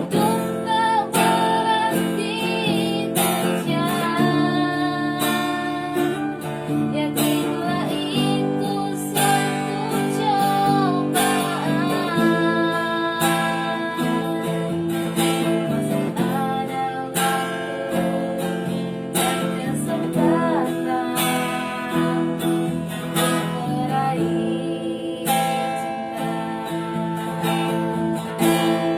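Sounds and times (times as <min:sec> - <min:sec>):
acoustic guitar strumming chords: 0:00.0 - 0:28.9.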